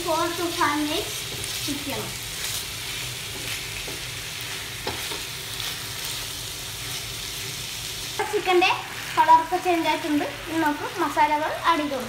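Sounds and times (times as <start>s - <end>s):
chicken sizzling on a hot pan: 0.0s - 12.0s.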